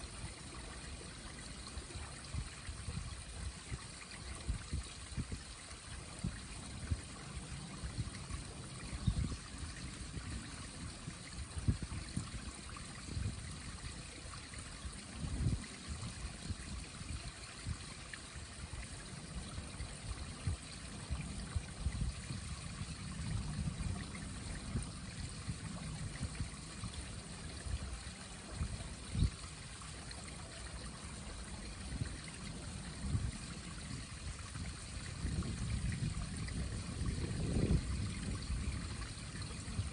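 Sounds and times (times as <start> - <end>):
stream trickling under ice: 0.0 - 39.9.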